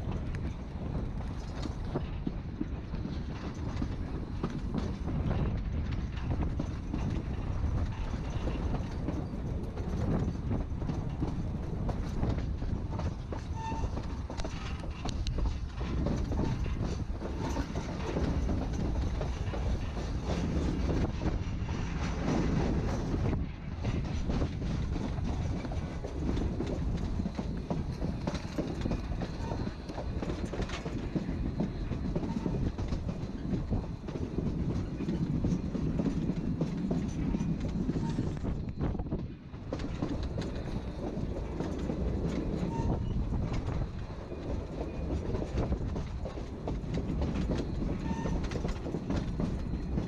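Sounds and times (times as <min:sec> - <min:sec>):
train rumbling: 0:00.0 - 0:50.0
wheels clattering over rail joints: 0:00.0 - 0:50.0.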